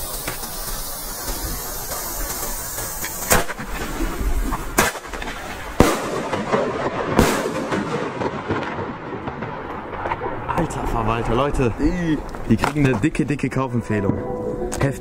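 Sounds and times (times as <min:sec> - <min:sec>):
firecracker bangs: 0:00.0 - 0:12.9
crackling hiss: 0:00.0 - 0:13.7.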